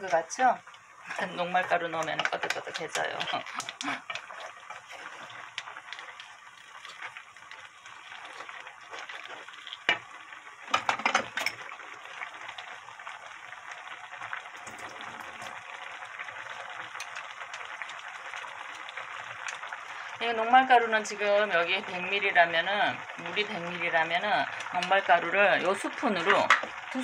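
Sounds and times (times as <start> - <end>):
stew bubbling in a pan: 0.0 - 27.0.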